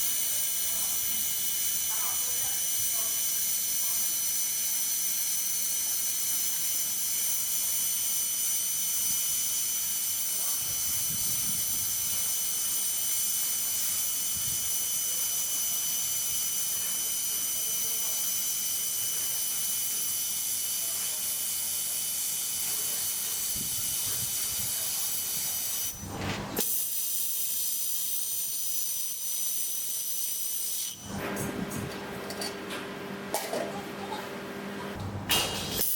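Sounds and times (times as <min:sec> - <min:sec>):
laser welder hissing: 0:00.0 - 0:31.2, 0:35.4 - 0:35.9.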